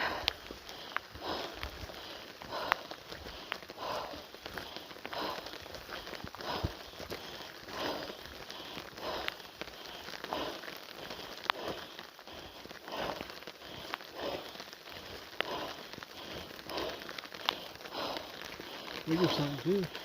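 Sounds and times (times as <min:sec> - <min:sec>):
footsteps on wet trail: 0:00.0 - 0:20.0
rain pattering: 0:00.0 - 0:20.0
raindrops ticking: 0:00.0 - 0:20.0.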